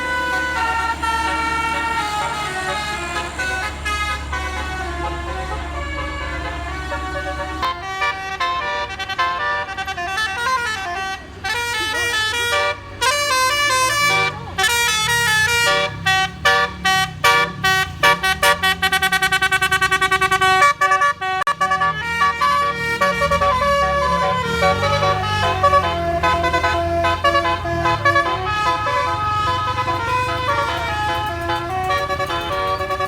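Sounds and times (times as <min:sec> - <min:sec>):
bus engine rumble: 0:00.0 - 0:33.0
bus horn playing melody: 0:00.0 - 0:33.0.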